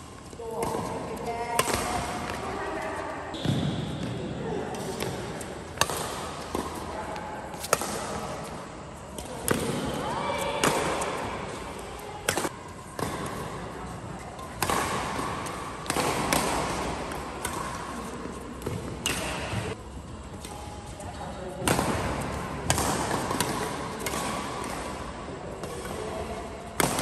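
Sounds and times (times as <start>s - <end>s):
rackets striking shuttlecock: 0.3s - 2.7s, 4.8s - 13.6s, 14.3s - 20.8s, 21.6s - 27.0s.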